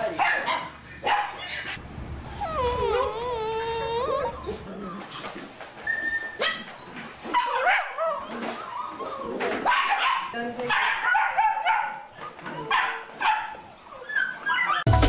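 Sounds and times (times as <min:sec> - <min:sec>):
puppies whining: 0:00.0 - 0:14.9
puppies yelping: 0:00.0 - 0:14.9.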